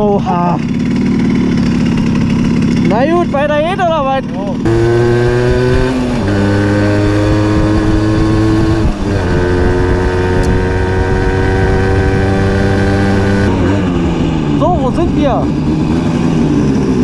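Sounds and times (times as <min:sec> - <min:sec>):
moped engine shifting gears: 0:00.0 - 0:17.0
wind: 0:00.0 - 0:17.0.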